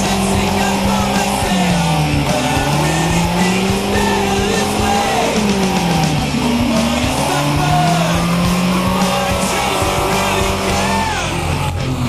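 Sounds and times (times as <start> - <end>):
rock music with guitar: 0.0 - 12.0
vehicle engine running: 0.0 - 12.0.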